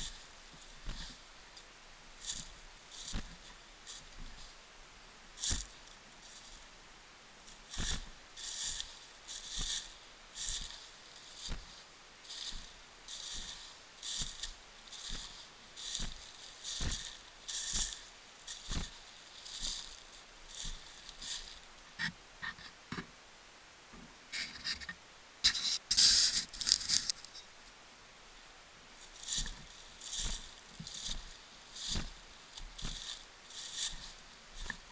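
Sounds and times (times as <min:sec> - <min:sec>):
footsteps crunching dry leaves: 0:00.0 - 0:04.7, 0:05.3 - 0:06.8, 0:07.4 - 0:22.0, 0:25.8 - 0:27.4, 0:28.9 - 0:34.9.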